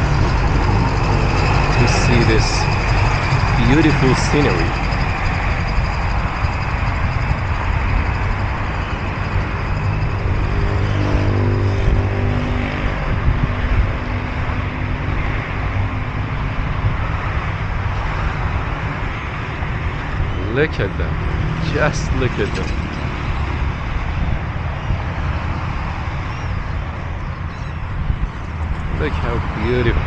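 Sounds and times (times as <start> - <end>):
road traffic rumble: 0.0 - 30.0
vehicle engine hum: 0.0 - 30.0.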